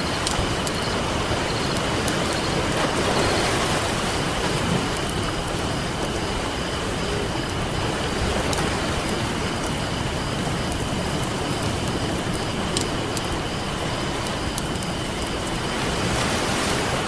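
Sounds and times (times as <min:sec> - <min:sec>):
campfire crackling: 0:00.0 - 0:17.0
ocean surf: 0:00.0 - 0:17.0.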